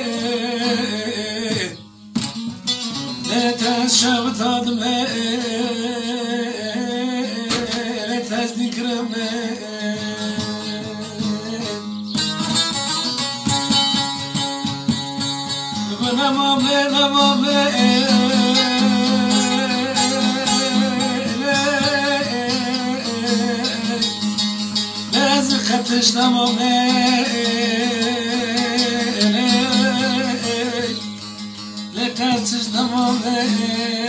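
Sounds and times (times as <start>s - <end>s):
plucked lute folk tune: 0.0s - 34.0s.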